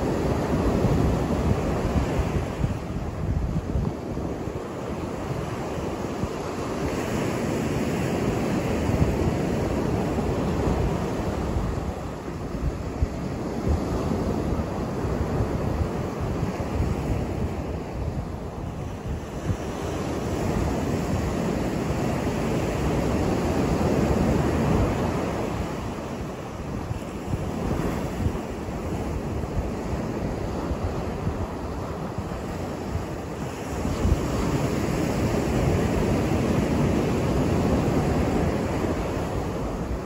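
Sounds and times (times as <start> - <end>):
ocean surf on beach: 0.0 - 40.0.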